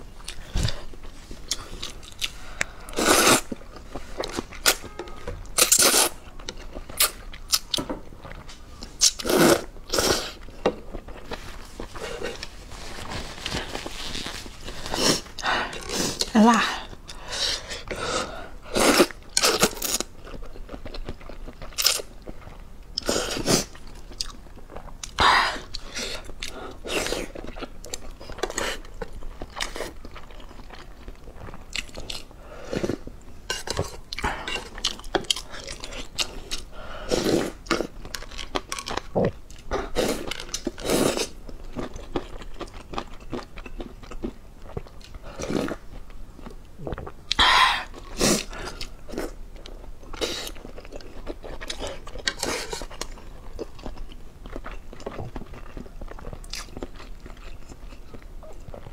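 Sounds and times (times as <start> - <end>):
person chewing noodles: 0.1 - 58.9.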